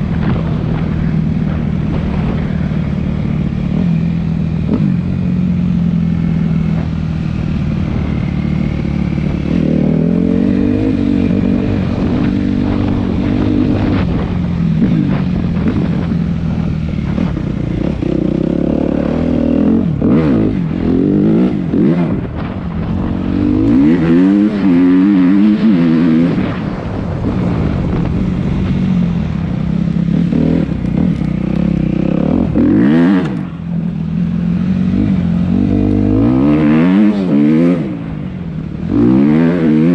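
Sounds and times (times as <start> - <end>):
dirt bike engine revving: 0.0 - 26.6, 29.6 - 38.2, 38.8 - 39.9.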